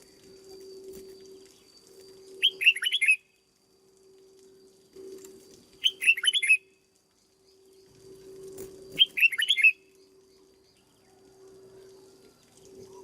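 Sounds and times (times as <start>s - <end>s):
bird singing whistled notes: 0.0s - 3.4s, 5.1s - 13.0s
steady low hum: 0.0s - 13.0s.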